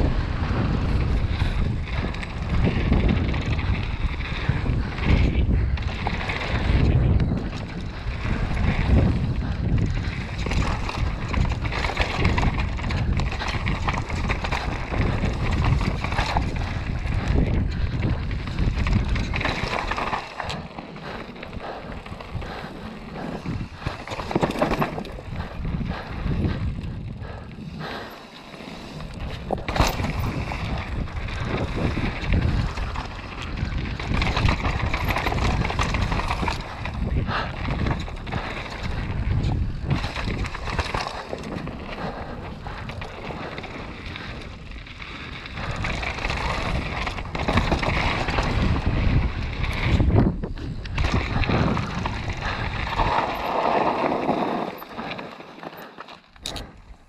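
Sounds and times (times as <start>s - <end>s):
wind rushing over microphone: 0.0s - 55.2s
bike clattering over bumps: 0.0s - 57.0s
tyres crunching over dirt: 0.3s - 56.8s.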